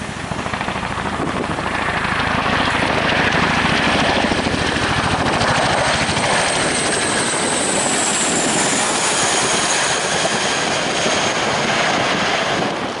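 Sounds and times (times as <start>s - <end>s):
helicopter rotor beat: 0.0s - 13.0s
high turbine whine: 0.0s - 13.0s.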